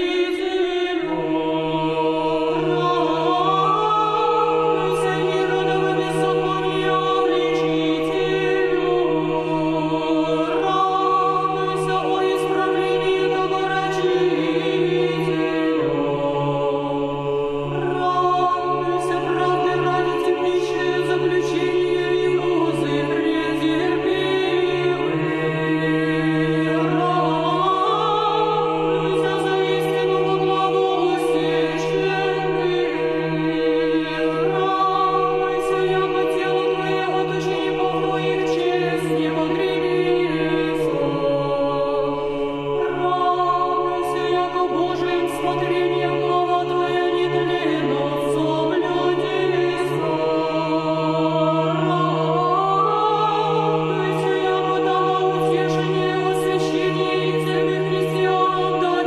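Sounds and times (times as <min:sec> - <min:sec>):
choir singing chant: 0:00.0 - 0:59.0.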